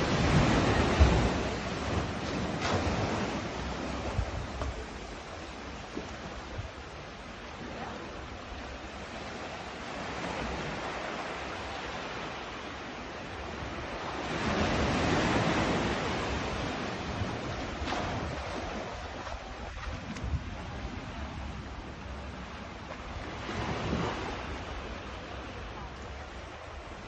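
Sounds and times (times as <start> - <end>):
sea waves washing onto shore: 0.0 - 27.0.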